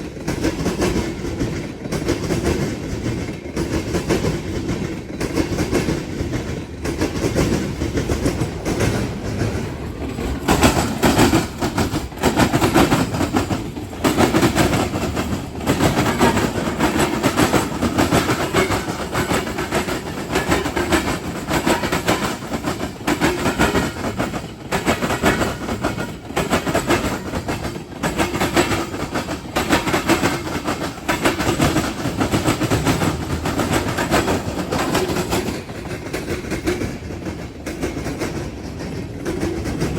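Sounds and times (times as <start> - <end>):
steady train rumble: 0.0 - 39.9
train wheels clacking: 0.0 - 39.9.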